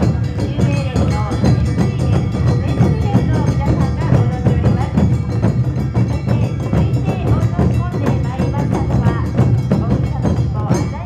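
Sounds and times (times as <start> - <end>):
taiko drums beating fast: 0.0 - 11.0.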